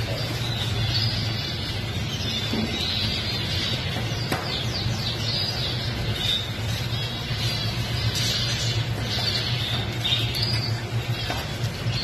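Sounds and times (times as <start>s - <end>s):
songbirds chirping: 0.0s - 12.0s
steady low hum: 0.0s - 12.0s.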